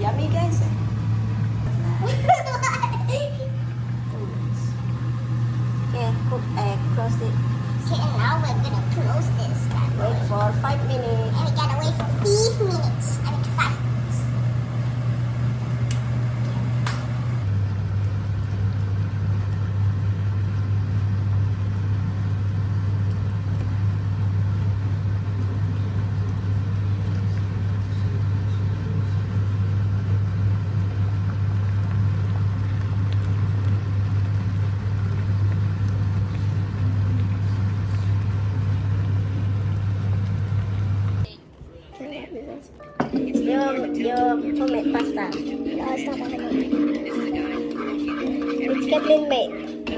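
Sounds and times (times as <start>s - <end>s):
low mechanical hum: 0.0s - 49.9s.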